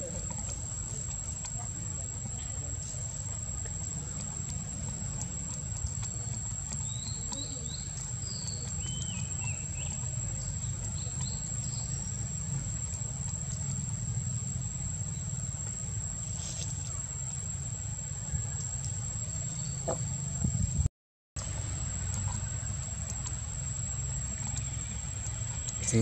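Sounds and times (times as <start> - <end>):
high insect whine: 0.0 - 26.0.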